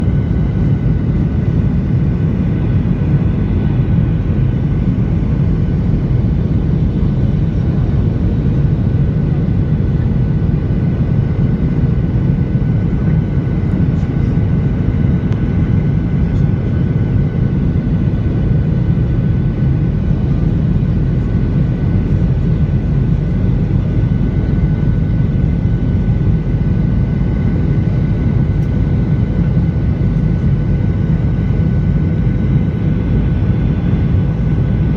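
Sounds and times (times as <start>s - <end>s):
jet engine and airflow roar: 0.0s - 34.9s.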